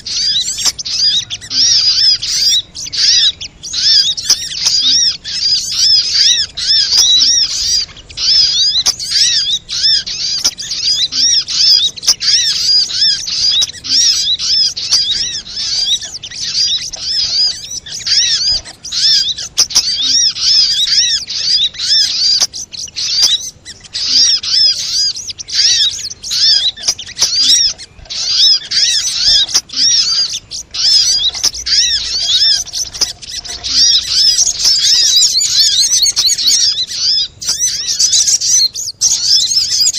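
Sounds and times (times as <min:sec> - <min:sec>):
birds calling rapidly: 0:00.0 - 0:39.9.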